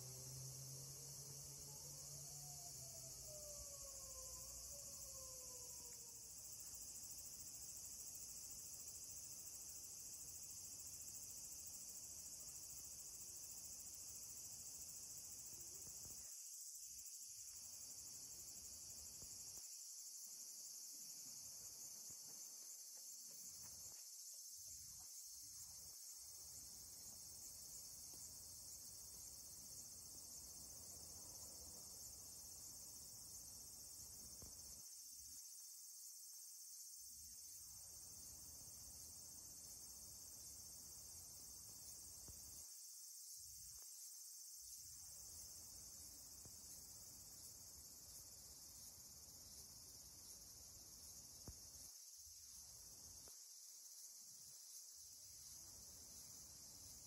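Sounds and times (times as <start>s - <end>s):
insect chorus trilling: 0.0s - 57.0s.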